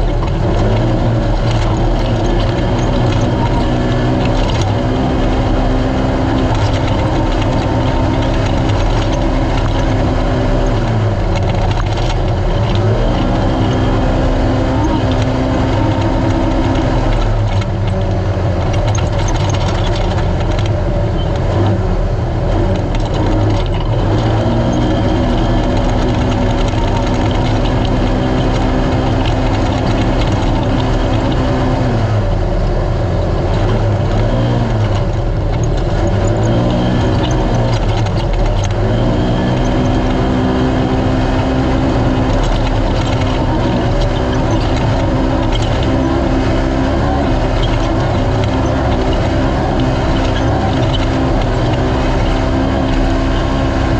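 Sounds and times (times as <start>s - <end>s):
mechanical and road noise: 0.0s - 53.9s
utv engine running at high revs: 0.0s - 53.9s.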